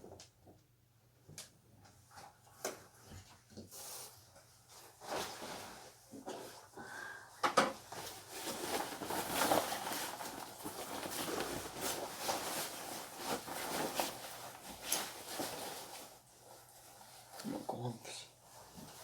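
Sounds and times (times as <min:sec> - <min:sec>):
clothing rustling: 0:02.1 - 0:06.7, 0:07.8 - 0:19.0.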